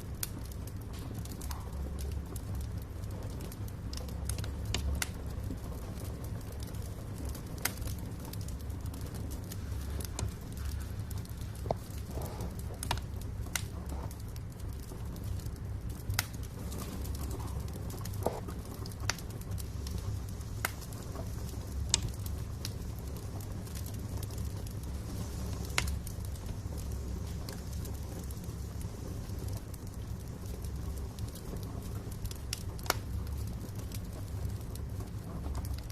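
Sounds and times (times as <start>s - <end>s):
fire crackling pops: 0.0s - 35.9s
low rumble of burning logs: 0.0s - 35.9s.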